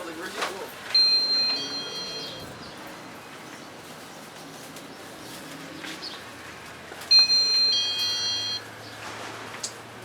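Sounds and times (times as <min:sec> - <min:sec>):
steady background noise: 0:00.0 - 0:10.0.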